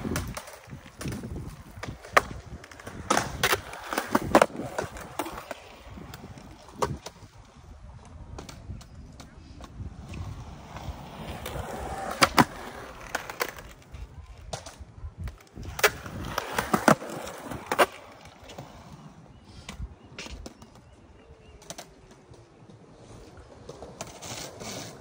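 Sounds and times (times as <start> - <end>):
skateboard clacking on concrete: 0.0 - 7.4, 8.0 - 25.0
skateboard wheels rolling on concrete: 0.0 - 25.0.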